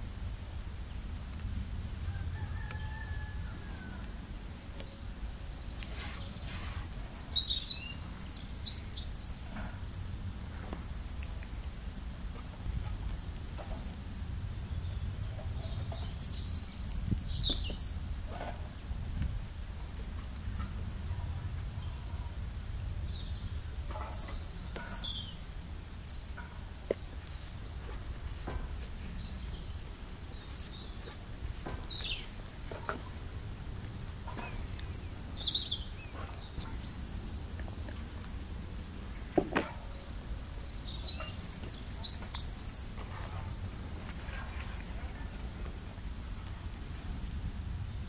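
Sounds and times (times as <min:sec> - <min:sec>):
low steady rumble: 0:00.0 - 0:48.0
small birds chirping: 0:00.2 - 0:01.6, 0:02.4 - 0:10.0, 0:10.8 - 0:48.0.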